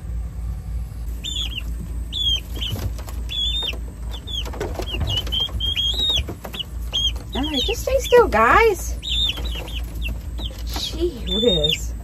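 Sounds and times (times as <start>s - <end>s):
steady low rumble: 0.0s - 12.0s
chicks peeping: 1.1s - 12.0s.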